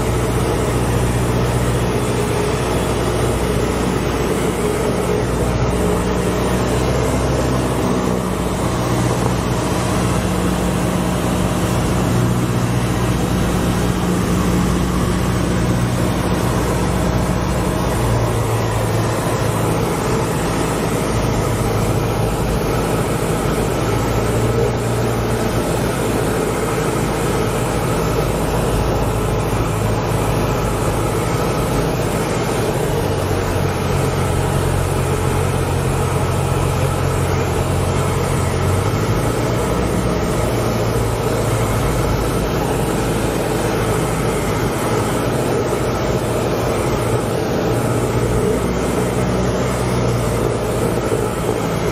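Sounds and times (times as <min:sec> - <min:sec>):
airplane engine drone in cockpit: 0:00.0 - 0:51.9.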